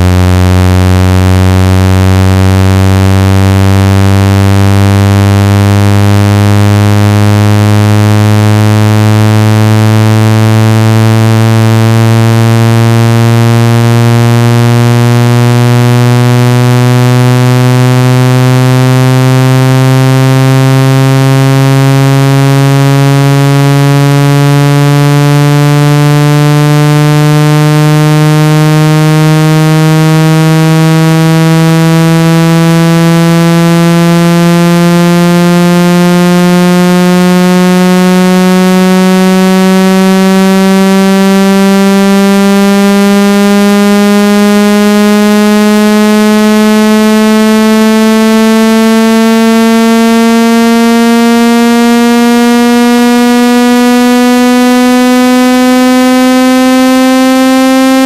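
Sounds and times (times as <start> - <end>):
harsh buzzy rising tone: 0.0 - 58.0.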